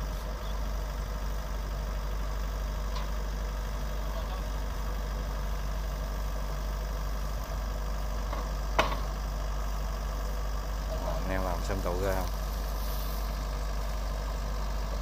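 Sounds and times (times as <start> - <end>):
farm machine engine idling: 0.0 - 15.0.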